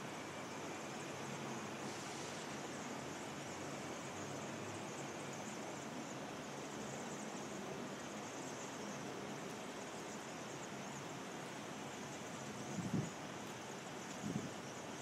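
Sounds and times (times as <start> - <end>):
city background noise: 0.0 - 15.0.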